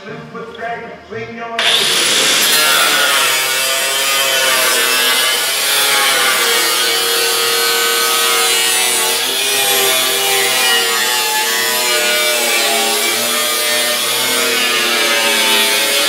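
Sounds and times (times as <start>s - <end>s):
cutoff wheel grinding steel: 1.6s - 16.0s.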